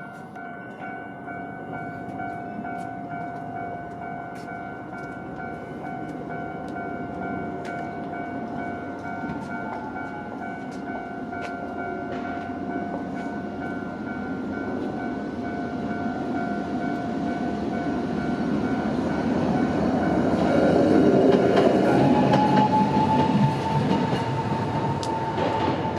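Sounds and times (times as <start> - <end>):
level crossing warning bell ringing: 0.0 - 25.5
tram running: 0.0 - 25.9.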